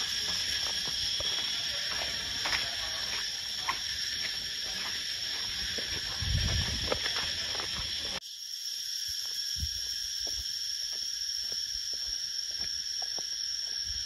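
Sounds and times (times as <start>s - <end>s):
footsteps on dirt path: 0.0s - 8.2s, 9.2s - 14.0s
high-pitched insect chorus: 0.0s - 14.0s.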